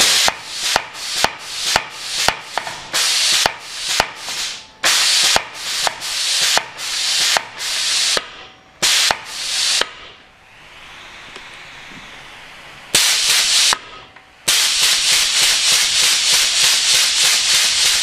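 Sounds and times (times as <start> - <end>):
compressed air hissing: 0.0 - 18.0.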